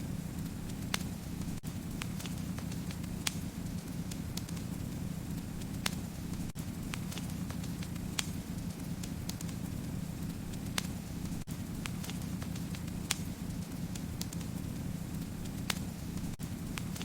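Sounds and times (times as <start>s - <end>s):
wood fire crackling: 0.0s - 17.0s
sharp pops of burning wood: 0.7s - 5.0s, 5.6s - 17.0s.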